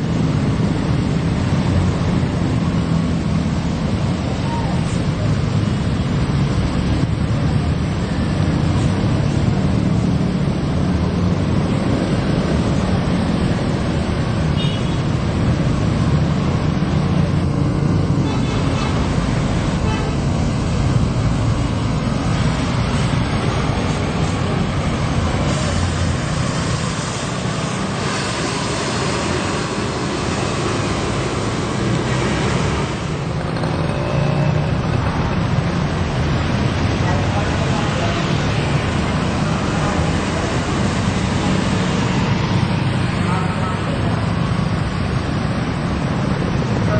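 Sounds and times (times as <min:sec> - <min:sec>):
road traffic with buses: 0:00.0 - 0:46.9.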